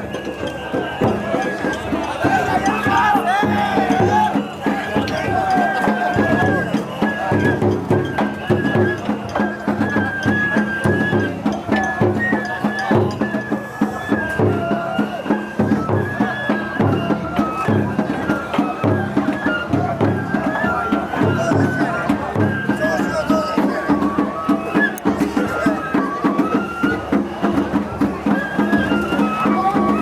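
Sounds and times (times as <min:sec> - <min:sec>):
high flute melody: 0:00.0 - 0:30.0
rapid drumming: 0:00.0 - 0:30.0.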